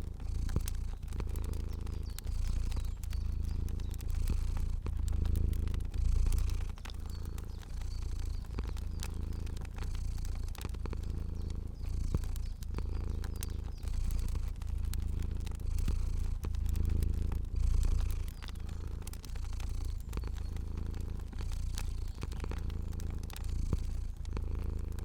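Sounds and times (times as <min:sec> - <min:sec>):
cat purring: 0:00.0 - 0:25.0
fire crackling: 0:00.0 - 0:25.0.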